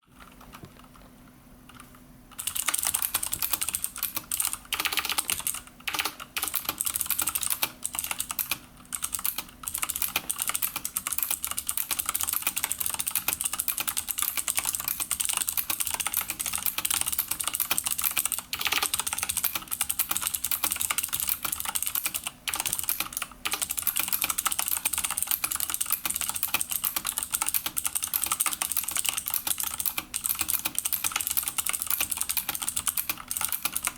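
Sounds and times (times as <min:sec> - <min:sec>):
mechanical keyboard typing: 0:00.0 - 0:01.0, 0:01.7 - 0:33.9.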